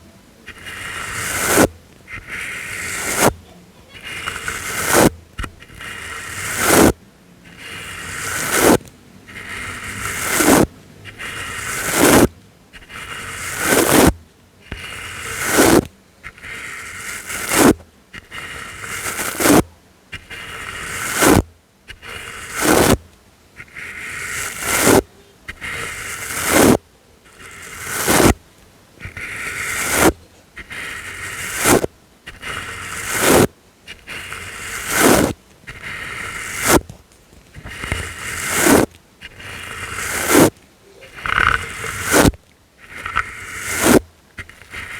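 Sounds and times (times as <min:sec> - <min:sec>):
scratchy brush strokes: 0:00.0 - 0:44.9.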